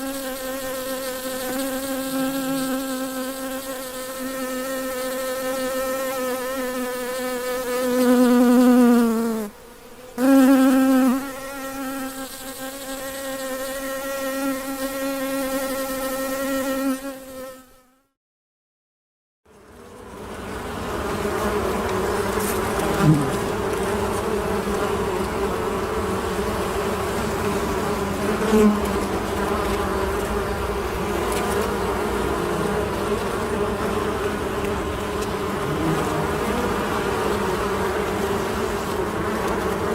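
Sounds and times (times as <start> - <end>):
honey bee buzzing: 0.0 - 18.1, 19.7 - 39.9
hum of many bees: 0.0 - 18.1, 19.5 - 39.9.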